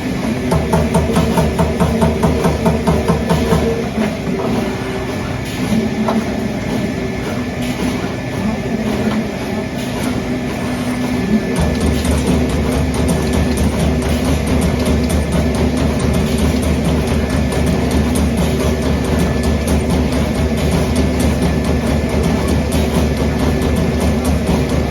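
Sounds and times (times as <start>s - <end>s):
machine humming: 0.0s - 24.9s.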